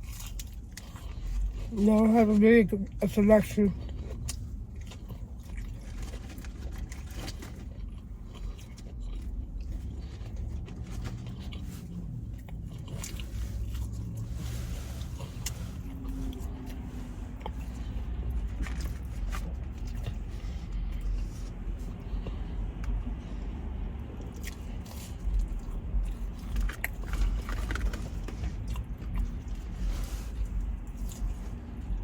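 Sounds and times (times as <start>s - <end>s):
person chewing food: 0.0s - 2.0s, 3.7s - 32.0s.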